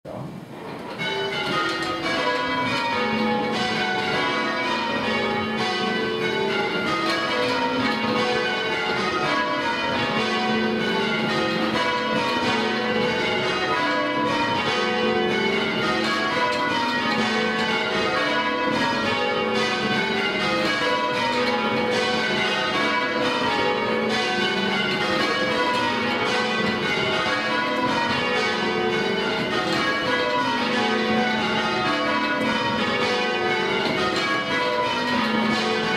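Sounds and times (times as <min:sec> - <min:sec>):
tower bells ringing: 0:00.6 - 0:35.9.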